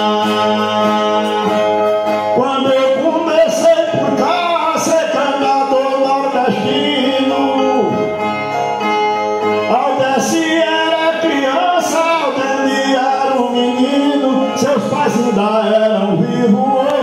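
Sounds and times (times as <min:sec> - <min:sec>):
man singing long held notes: 0:00.0 - 0:08.6, 0:09.6 - 0:17.0
strummed guitar: 0:00.0 - 0:17.0.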